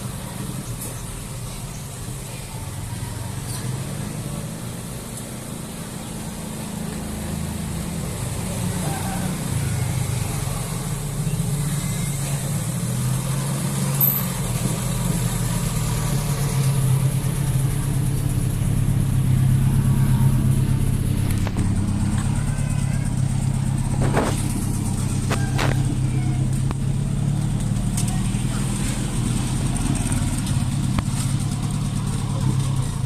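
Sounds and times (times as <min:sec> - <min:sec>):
vehicle engine drone: 0:00.0 - 0:33.0.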